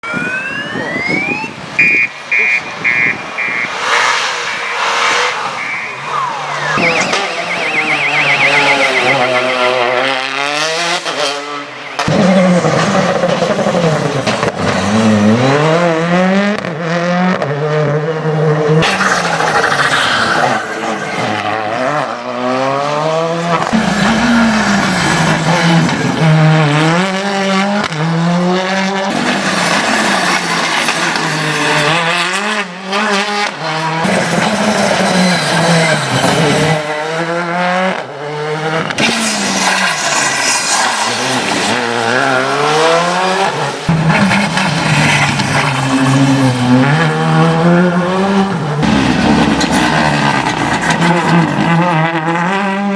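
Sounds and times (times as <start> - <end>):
rally car engines revving: 0.0 - 52.9.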